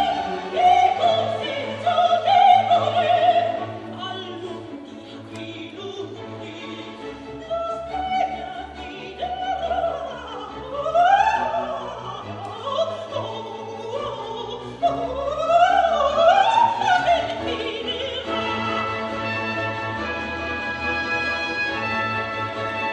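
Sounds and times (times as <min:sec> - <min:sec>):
orchestra: 0:00.0 - 0:22.9
soprano singing: 0:00.0 - 0:22.9.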